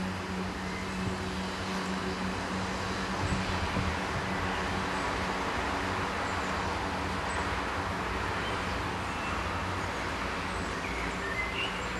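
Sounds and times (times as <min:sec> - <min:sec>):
distant road traffic: 0:00.0 - 0:11.9.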